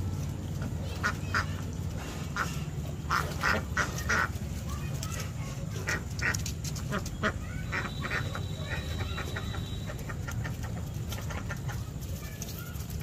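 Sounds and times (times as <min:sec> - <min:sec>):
ducks quacking: 0:00.4 - 0:12.2.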